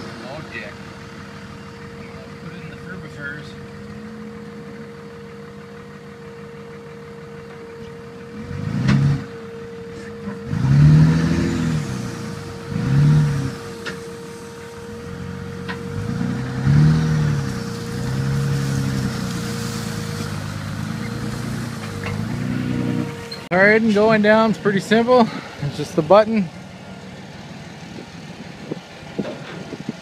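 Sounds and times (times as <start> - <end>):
truck engine idling and revving: 0.0 - 30.0.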